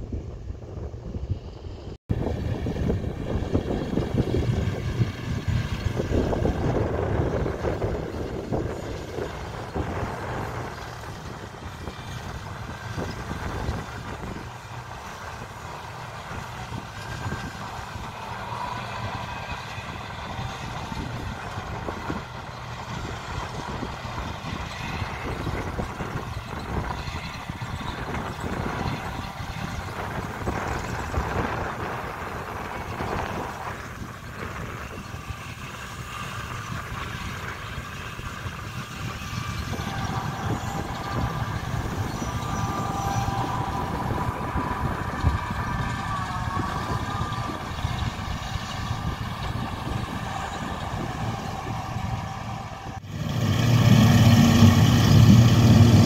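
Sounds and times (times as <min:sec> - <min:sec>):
tractor and hay merger running: 0:00.1 - 0:56.0.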